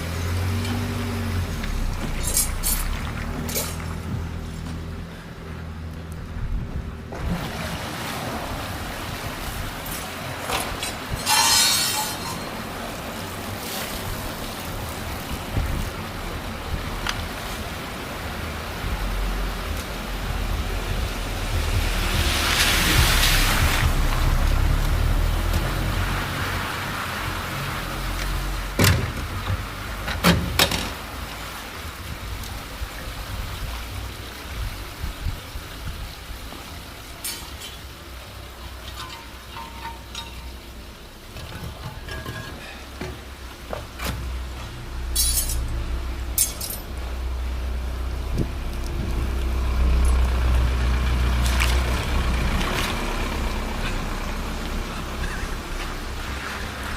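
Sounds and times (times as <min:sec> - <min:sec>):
water rushing down storm drain: 0:00.0 - 0:56.9.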